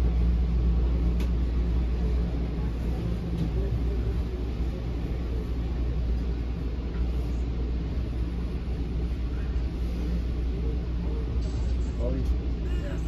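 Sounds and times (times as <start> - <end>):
train coach rumble and hum: 0.0 - 13.0.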